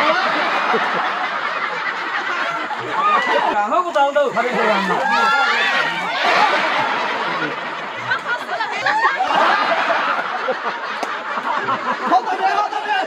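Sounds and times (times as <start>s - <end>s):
crowd laughing and talking: 0.0s - 13.0s.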